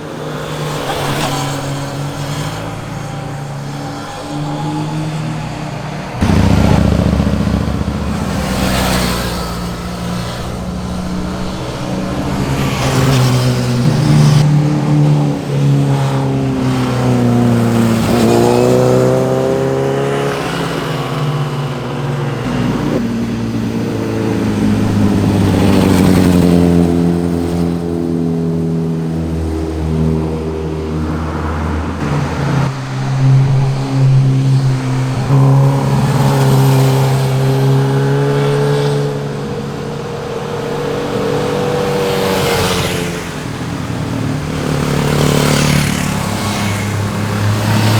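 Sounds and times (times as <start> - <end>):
motorcycles revving and passing: 0.0 - 47.9.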